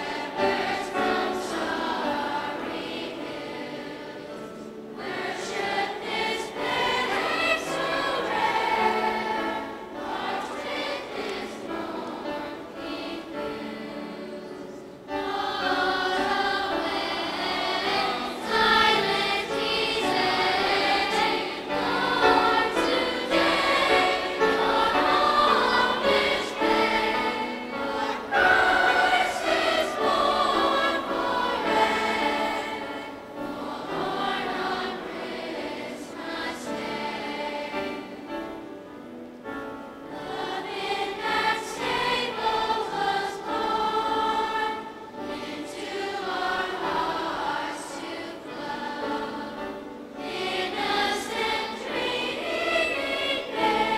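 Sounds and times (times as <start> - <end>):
children's choir singing: 0.0 - 53.9.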